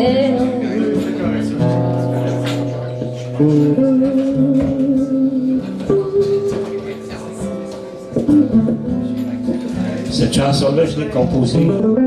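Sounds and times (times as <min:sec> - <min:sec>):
guitar playing chords: 0:00.0 - 0:12.0.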